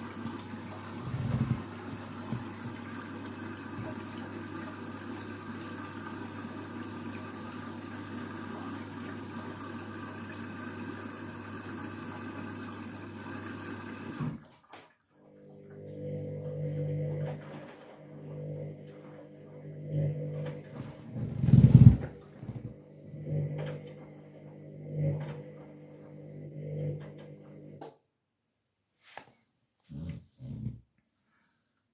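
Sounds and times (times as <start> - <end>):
water rushing into washing machine: 0.0 - 27.8.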